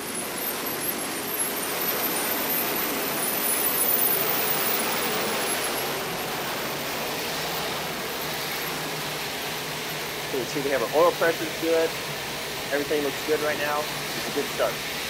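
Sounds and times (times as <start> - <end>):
high-pitched turbine whine: 0.0 - 15.0
turboprop engine running: 0.0 - 15.0.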